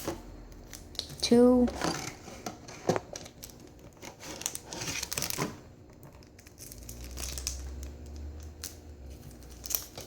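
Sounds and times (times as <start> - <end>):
foil wrappers crinkling: 0.0 - 10.0.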